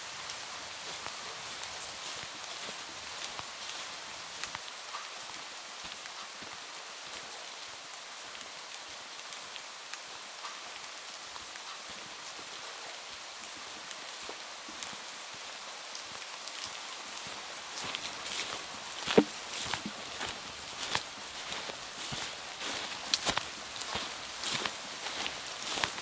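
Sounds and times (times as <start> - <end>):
steady rain hissing: 0.0 - 26.0.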